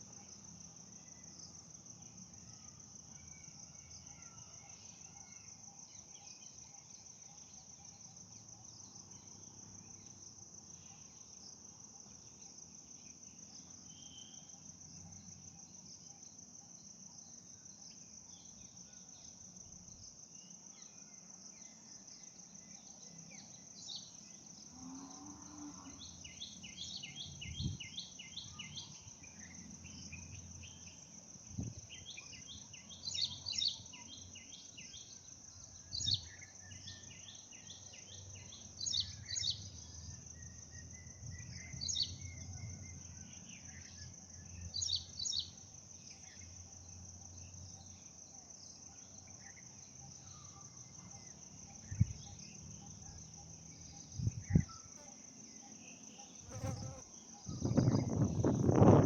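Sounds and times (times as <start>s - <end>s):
crickets droning: 0.0s - 59.0s.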